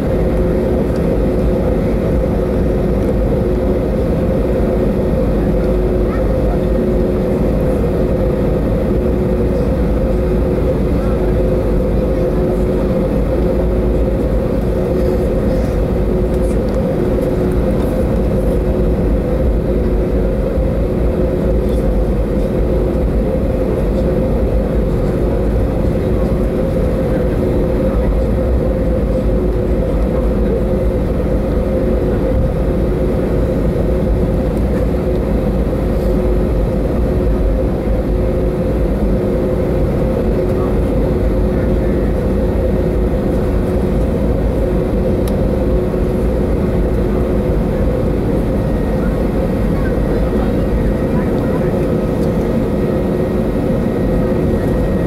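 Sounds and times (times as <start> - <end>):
jet engines low rumble: 0.0 - 55.0.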